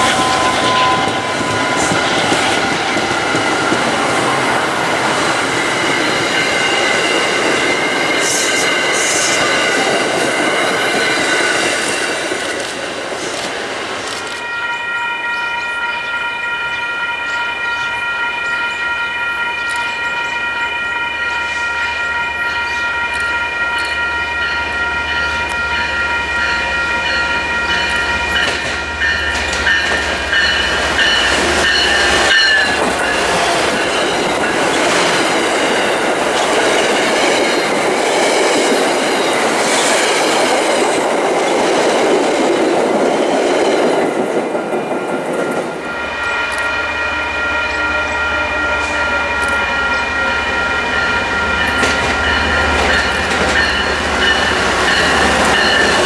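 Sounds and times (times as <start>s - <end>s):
crossing bell ringing: 0.0s - 12.2s, 14.4s - 41.7s, 42.3s - 56.0s
train passing on rails: 0.0s - 56.0s.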